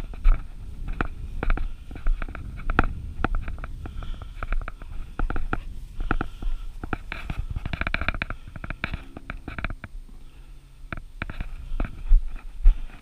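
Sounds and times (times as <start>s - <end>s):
footsteps through long grass: 0.0s - 13.0s
wind rumble on microphone: 0.0s - 13.0s
camera knocking and rubbing: 0.1s - 9.9s, 10.9s - 13.0s.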